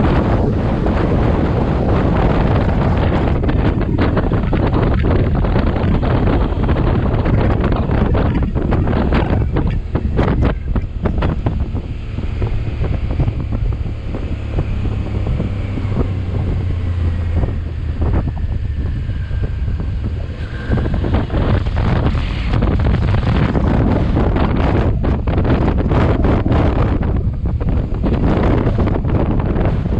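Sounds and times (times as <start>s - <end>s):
motorcycle engine running: 0.0s - 29.9s
wind buffeting microphone: 0.0s - 29.9s.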